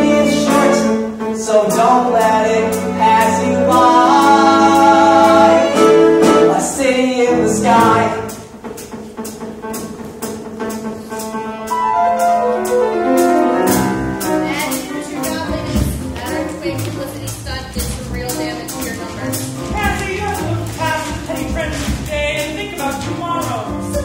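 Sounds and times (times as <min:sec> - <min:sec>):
pit band playing: 0:00.0 - 0:24.0
drum hits: 0:03.8 - 0:06.8, 0:07.6 - 0:24.0.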